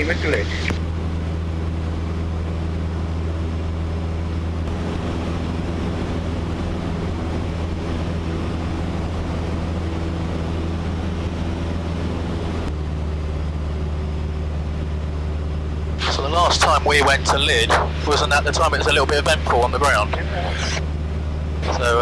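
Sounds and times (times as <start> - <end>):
aircraft engine and propeller droning: 0.0 - 22.0.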